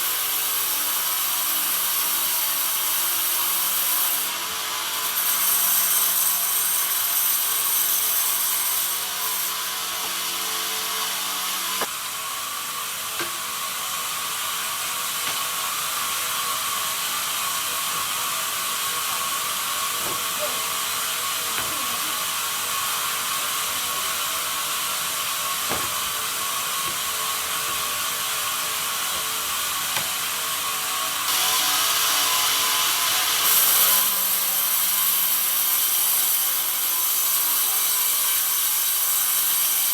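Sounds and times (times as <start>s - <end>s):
band sawmill sawing wood: 0.0s - 39.9s.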